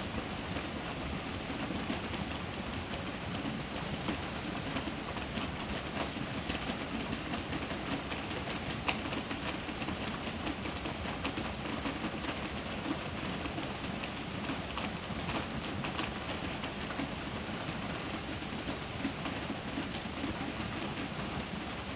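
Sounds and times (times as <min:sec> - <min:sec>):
heavy rain on roof: 0:00.0 - 0:21.9.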